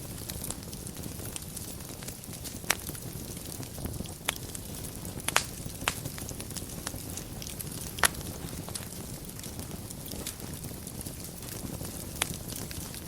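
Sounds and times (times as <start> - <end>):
sharp pops of burning wood: 0.0 - 13.0
wood fire crackling: 0.0 - 13.0.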